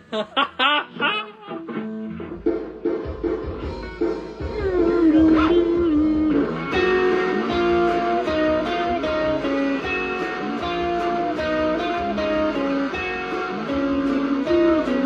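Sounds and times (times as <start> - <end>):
guitar melody: 0.9 - 15.0.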